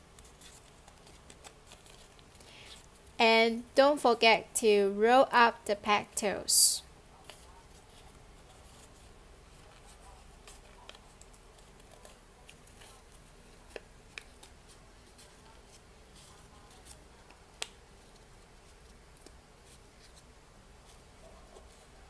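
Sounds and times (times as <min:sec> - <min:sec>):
paper rustling and crinkling: 0:00.0 - 0:03.0, 0:07.2 - 0:22.0.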